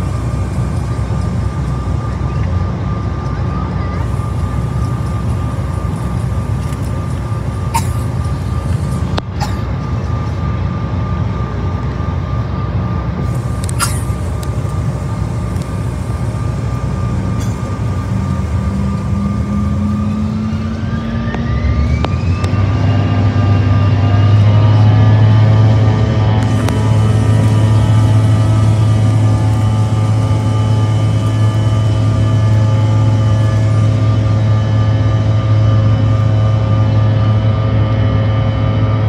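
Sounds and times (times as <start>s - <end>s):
jet cabin hum: 0.0s - 39.0s
jet engines spooling up: 0.0s - 39.0s.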